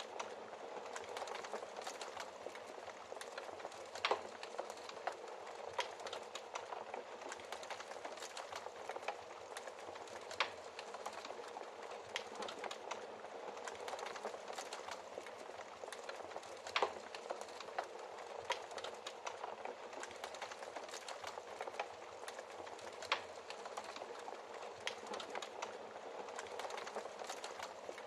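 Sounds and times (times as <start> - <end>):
fire popping: 0.0 - 28.0
wood fire crackling: 0.0 - 28.0.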